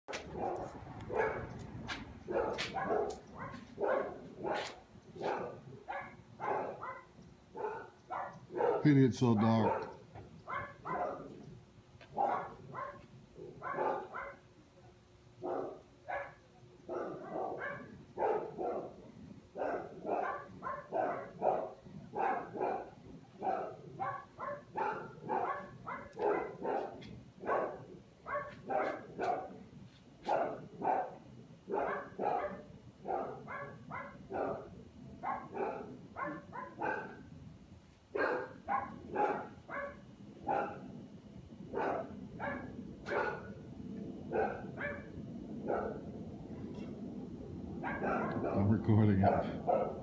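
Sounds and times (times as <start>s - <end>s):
dogs barking: 0.1s - 14.5s, 15.4s - 29.6s, 30.2s - 37.3s, 38.1s - 41.0s, 41.6s - 43.6s, 44.2s - 46.2s, 47.7s - 50.0s.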